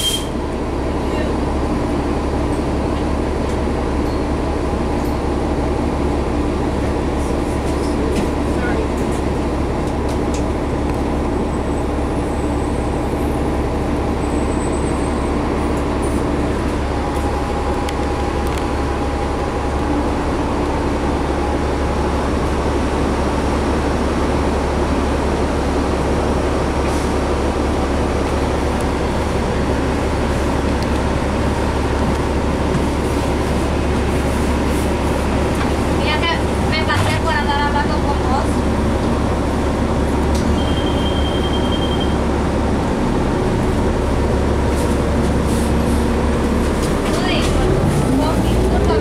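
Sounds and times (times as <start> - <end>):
bus diesel engine running: 0.0 - 49.0.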